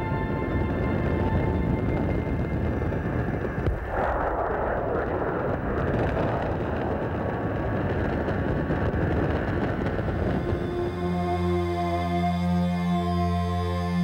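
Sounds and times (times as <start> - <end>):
rushing hissing layer: 0.0 - 12.1
deep rumbling drone: 0.0 - 14.0.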